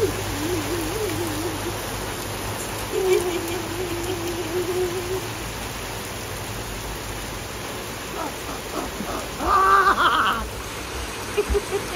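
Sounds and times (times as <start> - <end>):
steady rain: 0.0 - 11.9.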